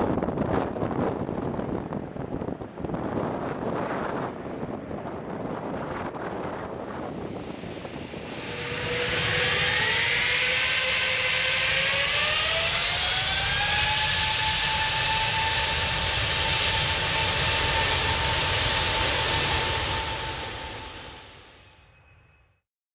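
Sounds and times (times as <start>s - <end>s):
jet engine spooling up: 2.4s - 22.2s.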